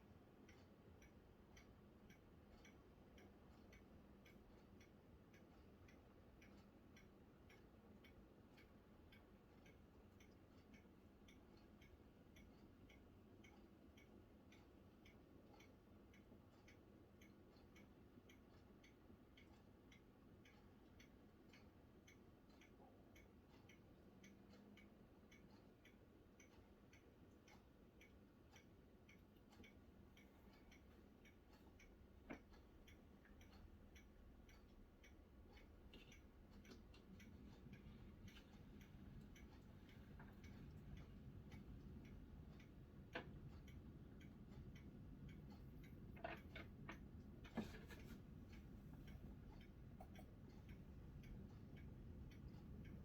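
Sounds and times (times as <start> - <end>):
faint even ticking: 0.0 - 53.0.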